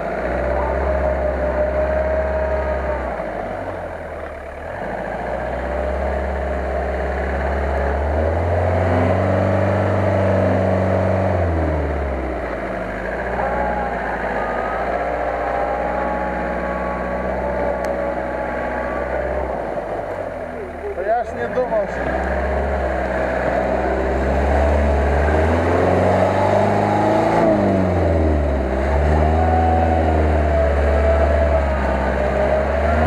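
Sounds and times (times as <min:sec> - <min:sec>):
engine revving in mud: 0:00.0 - 0:33.0.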